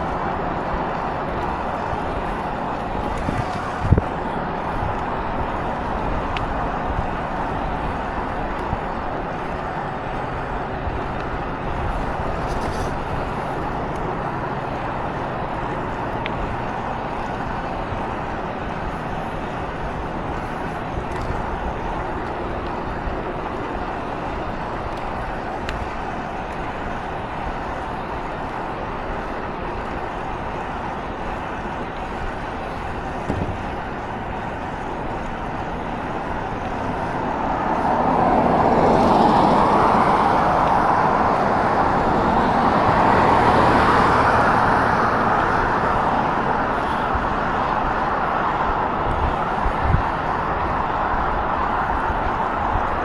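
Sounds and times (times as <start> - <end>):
vehicle road noise: 0.0 - 53.0.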